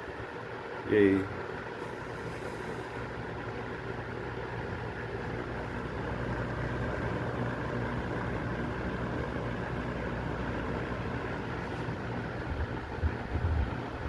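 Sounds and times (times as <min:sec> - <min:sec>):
low motor hum: 0:00.0 - 0:14.0
box fan air rushing: 0:01.6 - 0:14.0.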